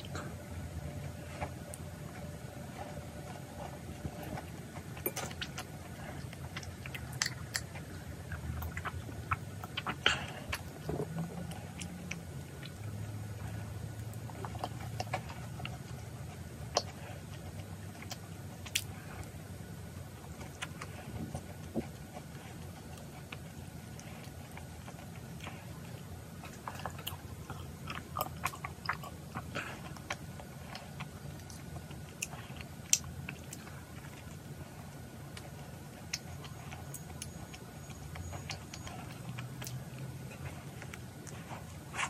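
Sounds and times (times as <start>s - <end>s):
crisp crunching and chewing: 0.0s - 42.0s
low steady hum: 0.0s - 42.0s.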